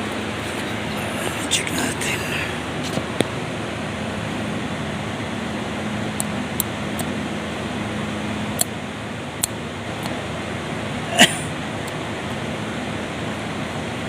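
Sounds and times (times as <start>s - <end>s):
faint low hum: 0.0s - 14.0s
fan-like whirring: 0.0s - 14.0s.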